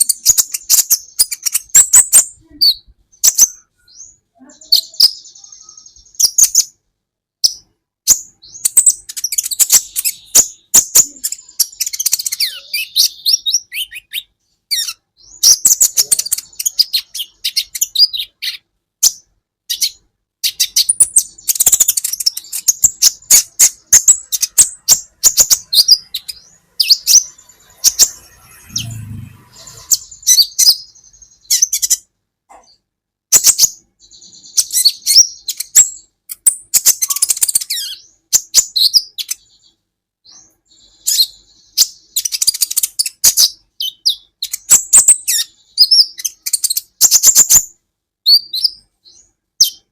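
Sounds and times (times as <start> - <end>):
sunbird chirping and twittering: 0.0 - 49.9.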